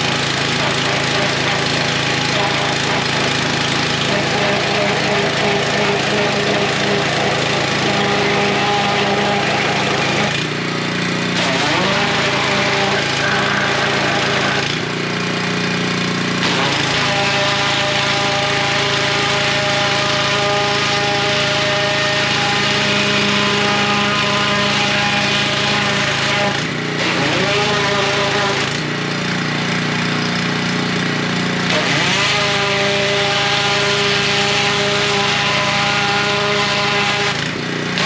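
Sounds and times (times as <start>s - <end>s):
pressure washer engine: 0.0s - 38.0s.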